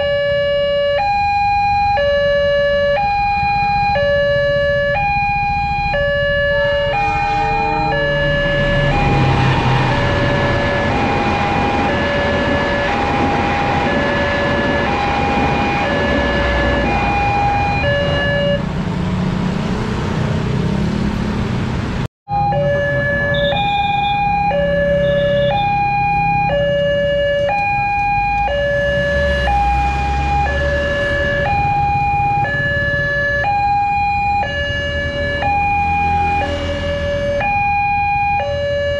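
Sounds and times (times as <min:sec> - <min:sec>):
two-tone crossing alarm: 0:00.0 - 0:18.7, 0:22.3 - 0:38.9
motorbike engines rumbling: 0:00.0 - 0:38.9
rushing traffic: 0:00.0 - 0:38.9.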